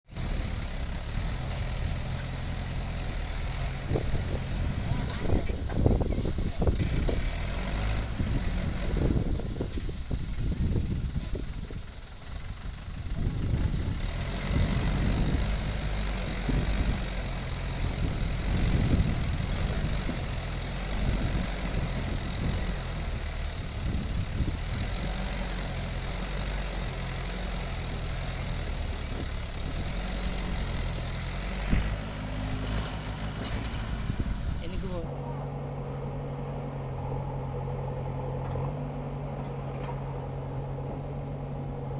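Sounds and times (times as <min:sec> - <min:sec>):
diesel engine working under load: 0:00.0 - 0:41.9.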